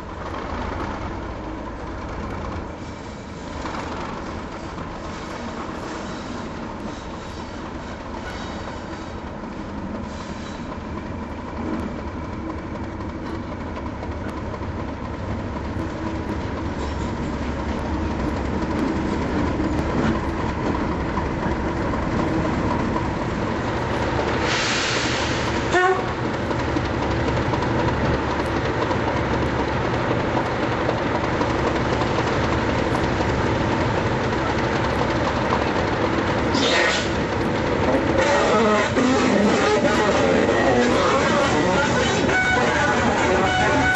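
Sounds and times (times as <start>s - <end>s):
diesel locomotive engine drone: 0.0s - 43.9s.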